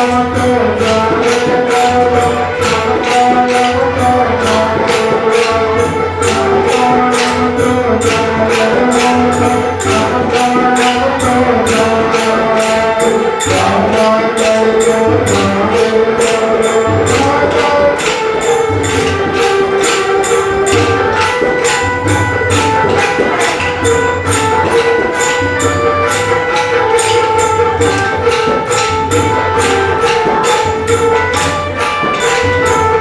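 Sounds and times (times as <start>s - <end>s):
held devotional melody: 0.0s - 33.0s
jingling percussion: 0.0s - 33.0s.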